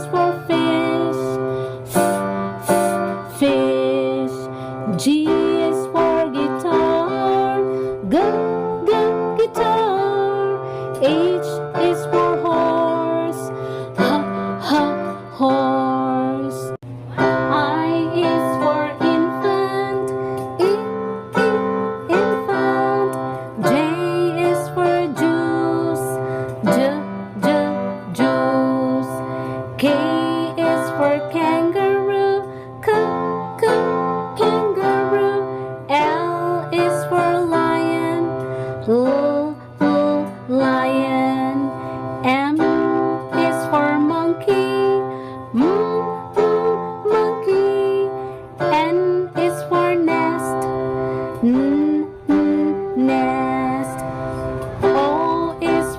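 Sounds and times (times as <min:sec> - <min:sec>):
person singing: 0:00.0 - 0:55.9.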